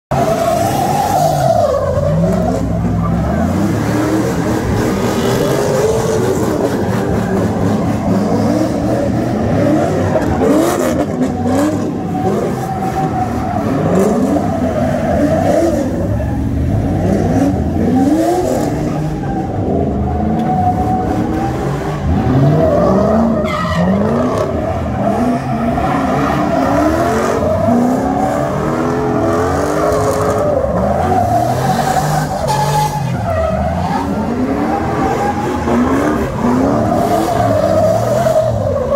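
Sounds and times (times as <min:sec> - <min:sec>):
car engines revving hard: 0:00.1 - 0:38.9
tyres screeching on asphalt: 0:00.1 - 0:38.9.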